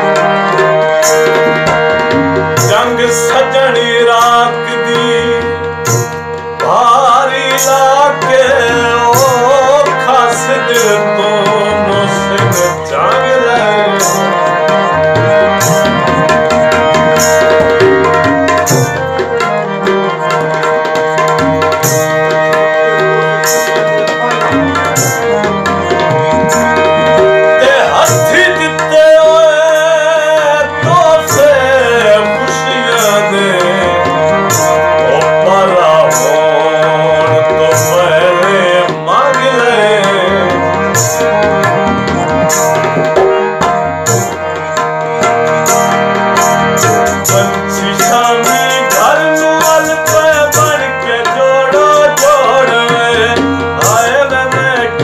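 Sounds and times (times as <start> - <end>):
harmonium melody: 0.0 - 55.0
tabla rhythm: 0.0 - 55.0.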